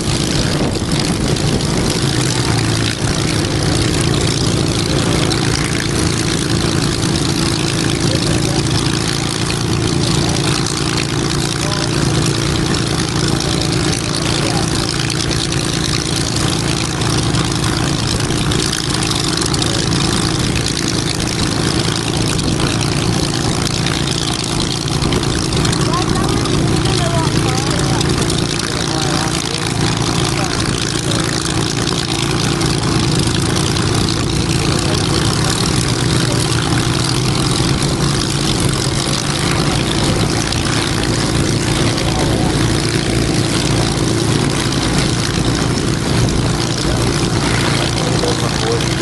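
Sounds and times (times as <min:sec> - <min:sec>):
aircraft engine idling: 0:00.0 - 0:49.0.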